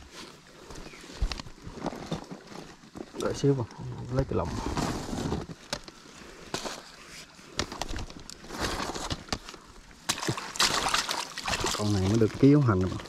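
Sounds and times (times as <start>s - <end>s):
rustling: 0.0s - 13.0s.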